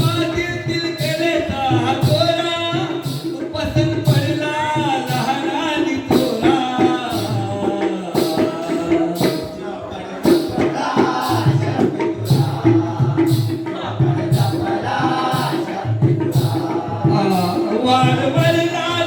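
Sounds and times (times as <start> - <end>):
jingling percussion: 0.0 - 19.0.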